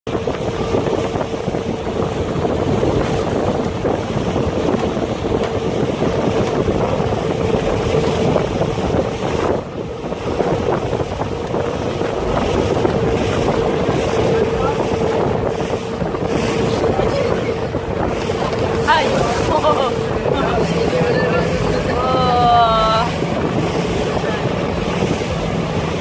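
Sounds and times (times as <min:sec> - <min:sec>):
boat engine humming: 0:00.0 - 0:26.0
wind buffeting microphone: 0:00.1 - 0:26.0.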